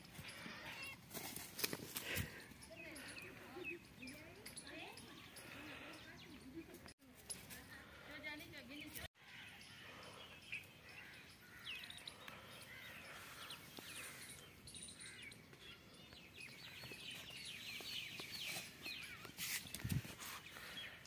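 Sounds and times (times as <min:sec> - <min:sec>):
faint outdoor background noise: 0:00.0 - 0:21.0
small birds chirping: 0:01.6 - 0:07.0, 0:07.7 - 0:21.0.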